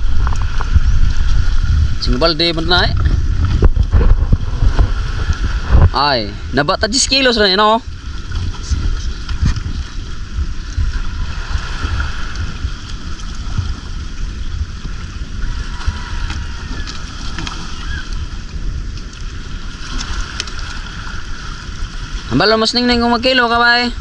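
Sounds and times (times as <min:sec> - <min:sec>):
sea water washing: 0:00.0 - 0:24.0
wind rumbling on microphone: 0:00.0 - 0:24.0.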